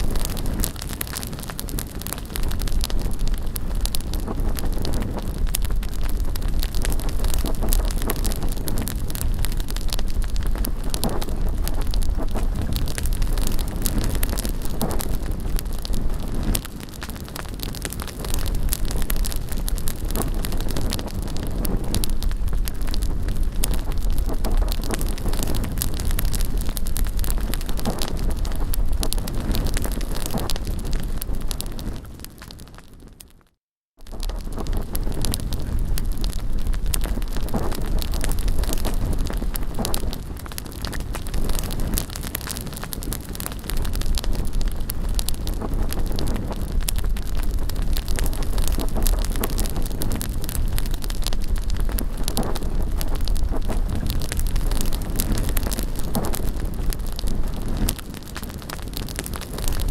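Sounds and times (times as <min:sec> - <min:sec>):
wind buffeting microphone: 0:00.0 - 0:33.2, 0:34.1 - 0:59.9
bonfire crackling and popping: 0:00.0 - 0:59.9.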